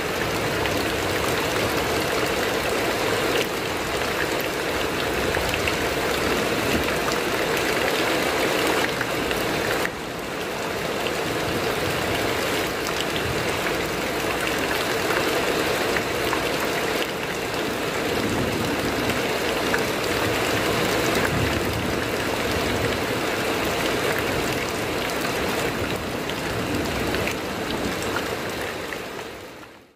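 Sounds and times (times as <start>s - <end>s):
heavy rain on metal roof: 0.0s - 29.9s.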